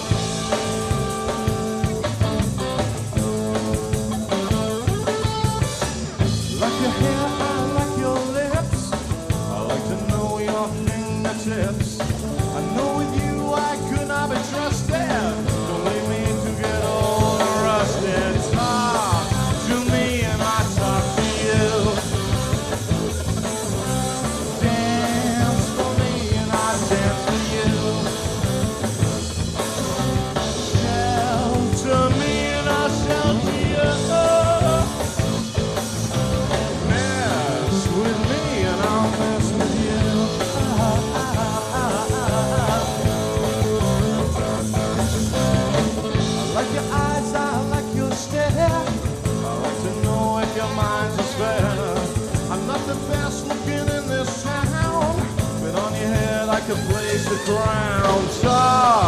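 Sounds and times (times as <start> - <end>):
band playing live: 0.0 - 59.0.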